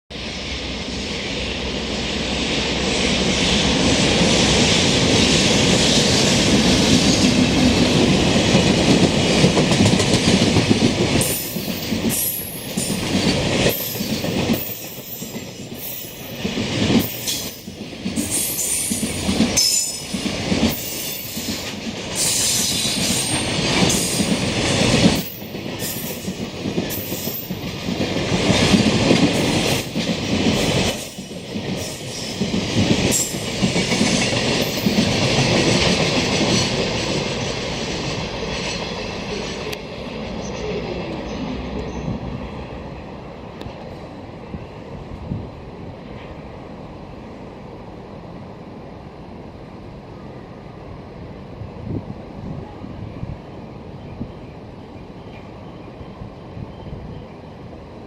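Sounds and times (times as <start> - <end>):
train rushing past: 0.1 - 58.0.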